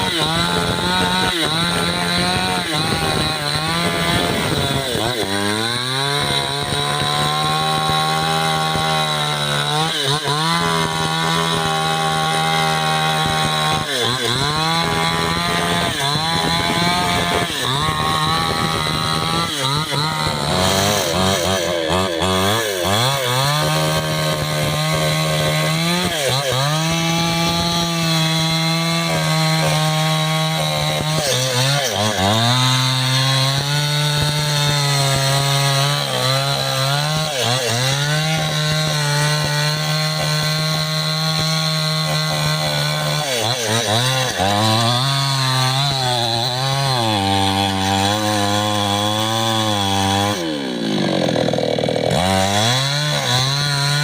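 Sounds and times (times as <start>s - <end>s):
chainsaw cutting tree trunk: 0.0s - 54.0s.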